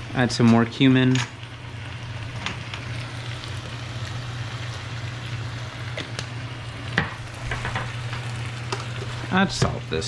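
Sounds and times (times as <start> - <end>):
food sizzling in a frying pan: 0.0 - 10.0
steady low hum: 0.0 - 10.0.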